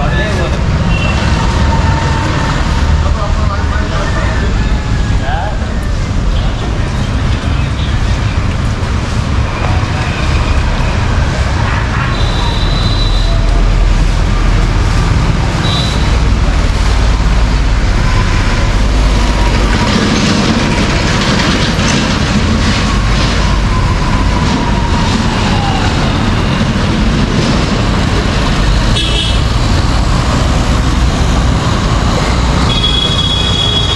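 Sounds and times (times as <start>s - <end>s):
city street traffic: 0.0s - 33.9s.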